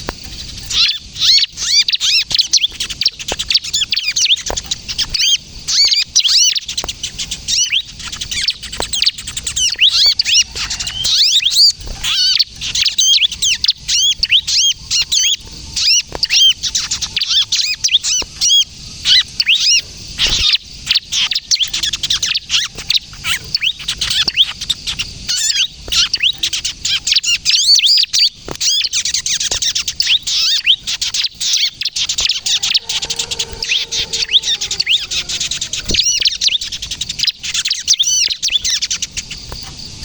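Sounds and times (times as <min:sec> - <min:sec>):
bird calling with shrill chirps: 0:00.3 - 0:38.8.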